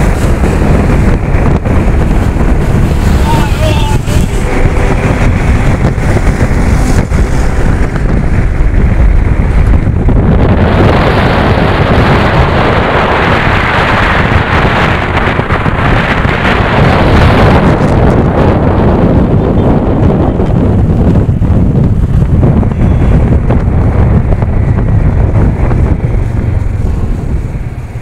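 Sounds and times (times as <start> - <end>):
low motorcycle rumble: 0.0 - 28.0
wind blasting microphone: 0.0 - 28.0.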